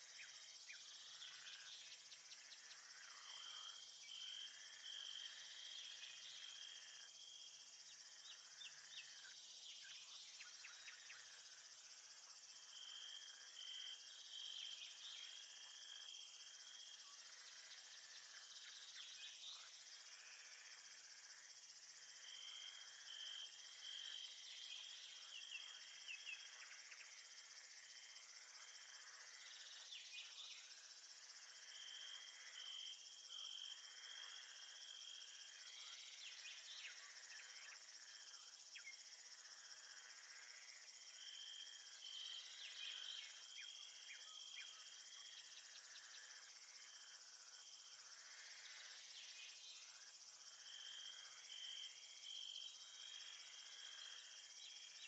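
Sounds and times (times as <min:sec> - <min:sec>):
cricket chirping: 0:00.0 - 0:55.0
insect chorus: 0:00.0 - 0:55.0.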